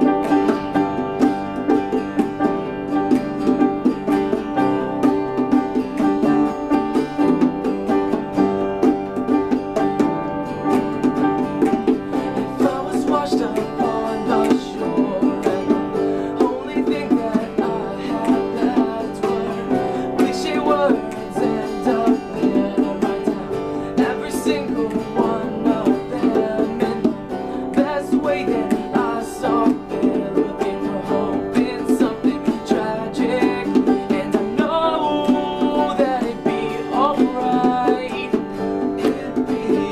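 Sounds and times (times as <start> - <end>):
person singing: 0.0 - 39.9
plucked string instruments: 0.0 - 39.9.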